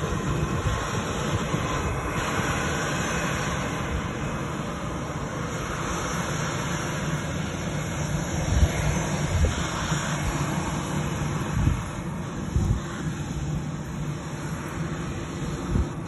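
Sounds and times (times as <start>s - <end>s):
jet engines rumbling hiss: 0.0s - 16.0s.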